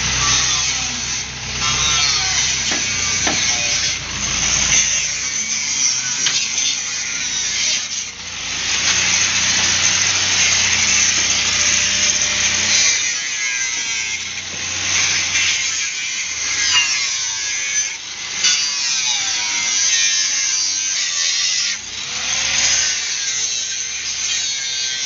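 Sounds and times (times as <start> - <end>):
power tool grinding steel: 0.0 - 25.0.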